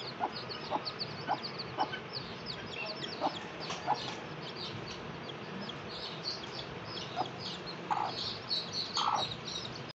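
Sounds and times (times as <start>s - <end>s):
hen clucking: 0.0s - 9.8s
chicks peeping: 0.0s - 9.9s.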